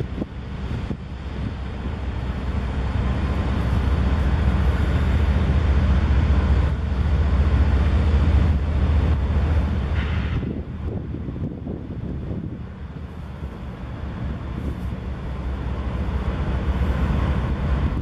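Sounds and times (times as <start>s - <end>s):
diesel locomotives rumbling past: 0.0s - 18.0s.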